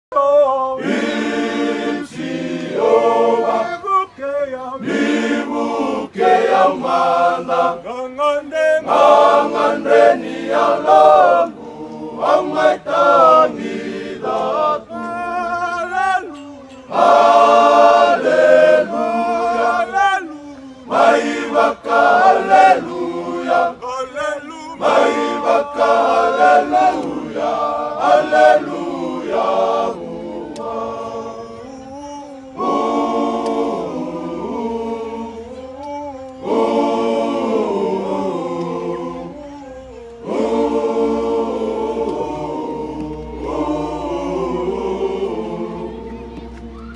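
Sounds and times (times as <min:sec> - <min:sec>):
men singing a hymn unaccompanied: 0:00.1 - 0:46.9.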